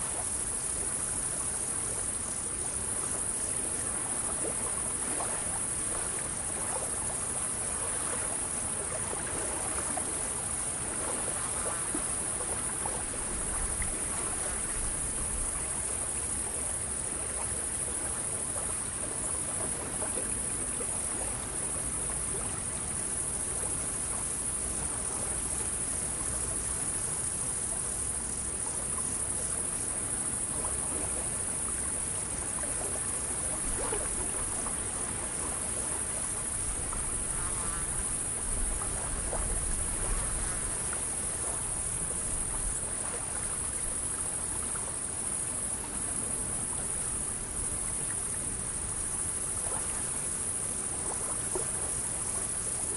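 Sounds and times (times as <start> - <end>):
gently lapping water: 0.0 - 52.9
insects chirring: 0.0 - 52.9.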